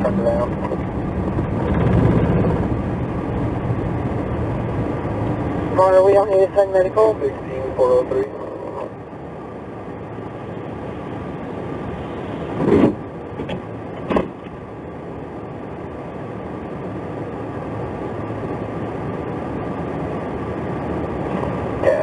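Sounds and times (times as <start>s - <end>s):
vehicle and road noise: 0.0s - 22.0s.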